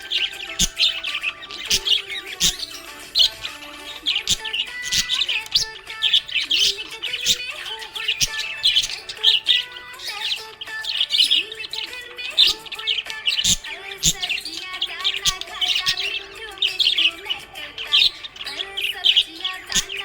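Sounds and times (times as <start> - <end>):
parrots chirping and warbling: 0.0 - 20.0.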